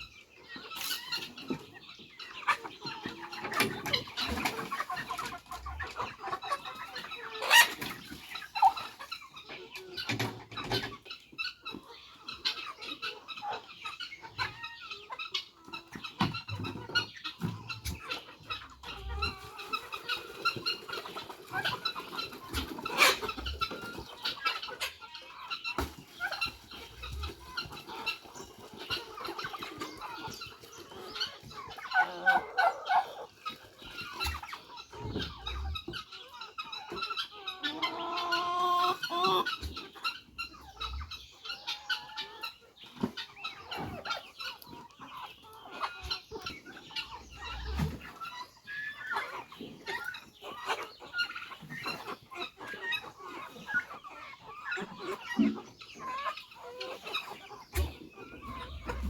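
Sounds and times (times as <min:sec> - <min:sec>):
chickens clucking and calling: 0:00.0 - 0:59.0.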